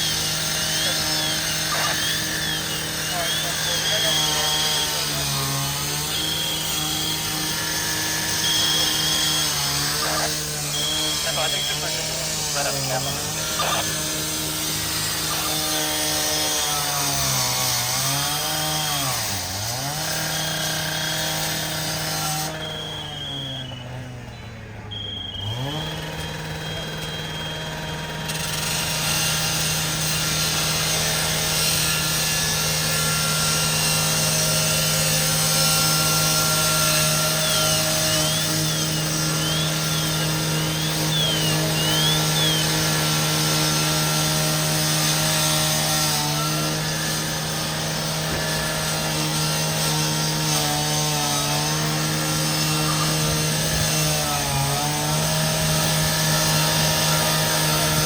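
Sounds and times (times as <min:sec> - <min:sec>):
gas-powered saw cutting: 0:00.0 - 0:58.0.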